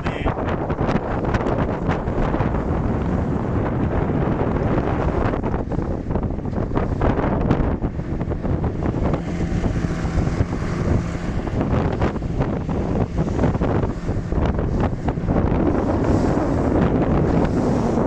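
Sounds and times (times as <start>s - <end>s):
waves slapping against hull: 0.0s - 18.0s
wind buffeting microphone: 0.0s - 18.0s.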